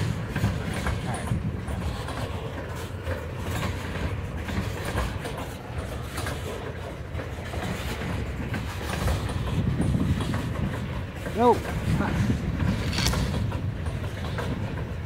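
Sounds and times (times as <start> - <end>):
freight train wheels rumbling on rails: 0.0 - 15.0
rail clicks: 0.0 - 15.0.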